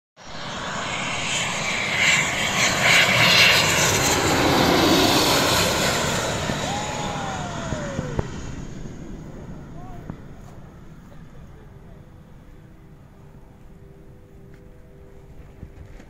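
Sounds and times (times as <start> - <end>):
jet engine passing overhead: 0.2 - 16.0.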